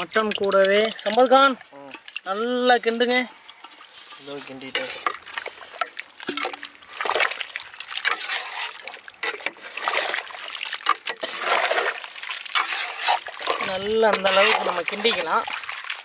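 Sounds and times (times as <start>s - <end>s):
food sloshing in pot: 0.0s - 16.0s.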